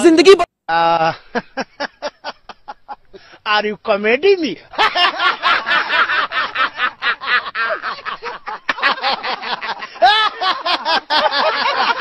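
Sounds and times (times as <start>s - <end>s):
men laughing: 0.8s - 3.4s, 4.6s - 12.0s.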